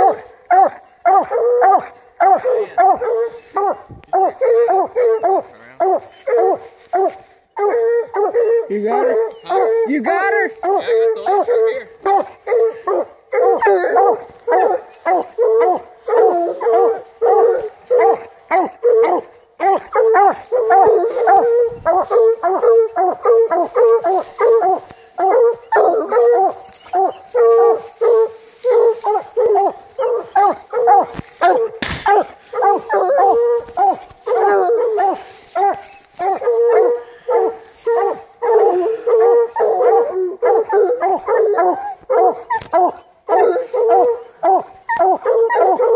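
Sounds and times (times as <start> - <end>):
hounds barking rapidly: 0.0 - 45.9.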